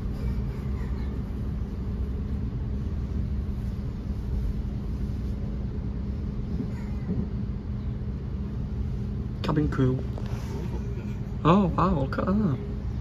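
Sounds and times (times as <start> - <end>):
electric train rumble and hum: 0.0 - 13.0.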